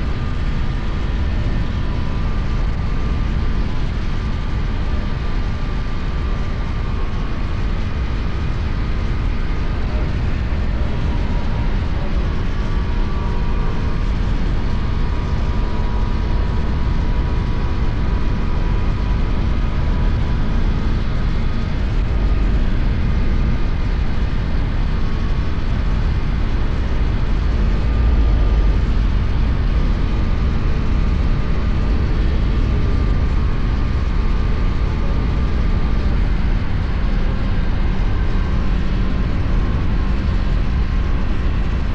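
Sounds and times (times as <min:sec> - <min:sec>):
wind rush and road noise: 0:00.0 - 0:41.9.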